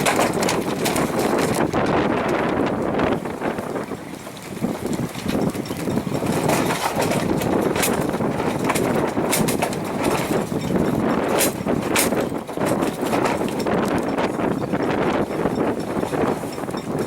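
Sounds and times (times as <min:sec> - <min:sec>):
water rushing past hull: 0:00.0 - 0:17.0
wind buffeting microphone: 0:00.0 - 0:17.0.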